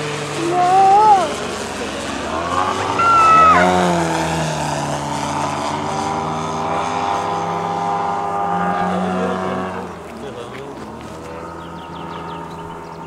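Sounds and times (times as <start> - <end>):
model airplane propeller engine: 0.0 - 13.0.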